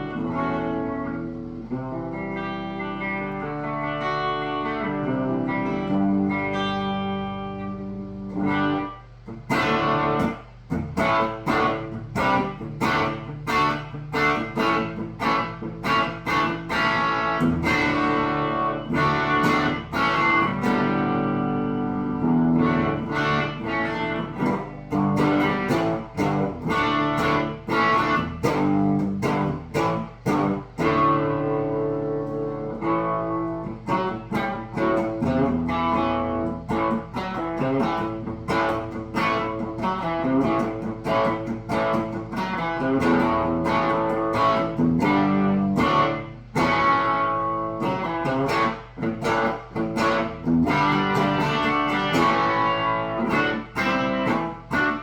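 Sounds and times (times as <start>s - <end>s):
overdriven electric guitar: 0.0s - 55.0s.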